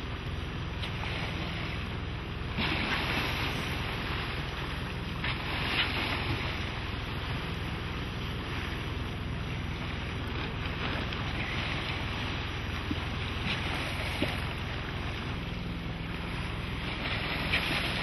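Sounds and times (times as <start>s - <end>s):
porpoises splashing: 0.0s - 18.0s
water rushing along hull: 0.0s - 18.0s.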